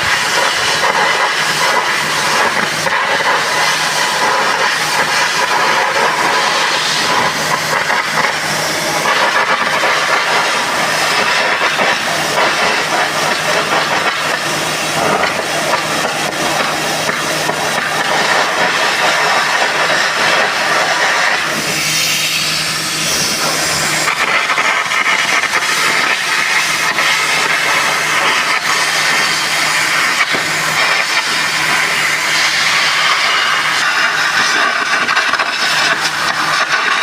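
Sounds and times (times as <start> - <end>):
steady low hum: 0.0 - 37.0
welding arc hissing and crackling: 0.0 - 37.0.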